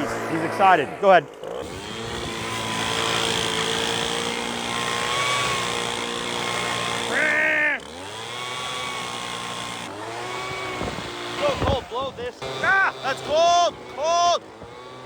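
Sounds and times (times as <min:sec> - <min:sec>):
leaf blower running: 0:00.0 - 0:15.0.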